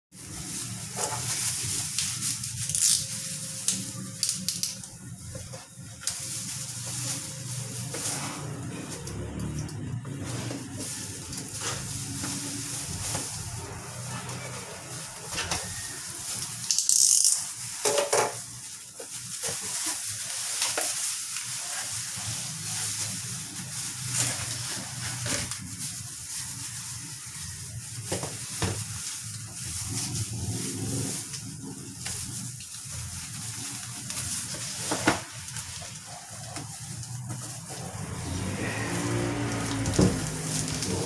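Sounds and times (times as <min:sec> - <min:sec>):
cardboard and plastic rustling: 0:00.1 - 0:41.0.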